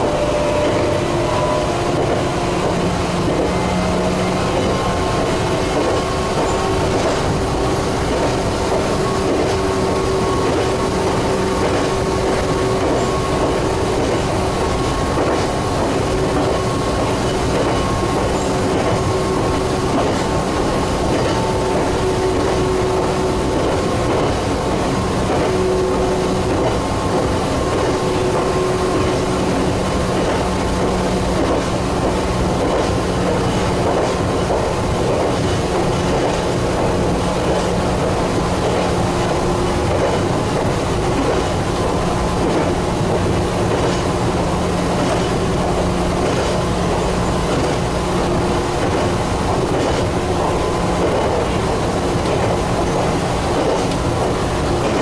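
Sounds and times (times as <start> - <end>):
electric train running hum: 0.0 - 55.0
wheels clicking on rails: 0.0 - 55.0.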